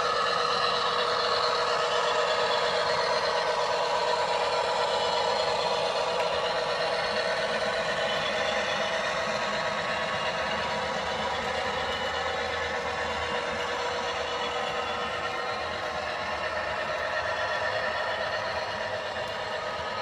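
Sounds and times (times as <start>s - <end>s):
diesel engine sound from small speaker: 0.0s - 20.0s.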